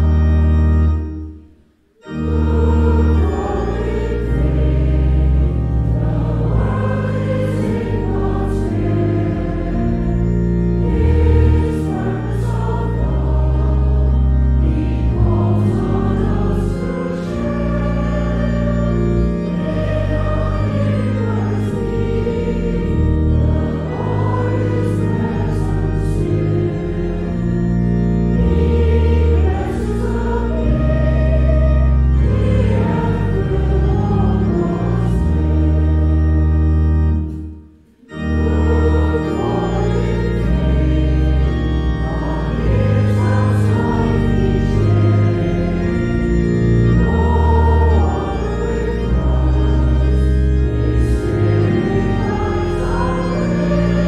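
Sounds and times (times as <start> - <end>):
voices singing a hymn: 0.0 - 1.4, 2.0 - 54.0
organ: 0.0 - 54.0.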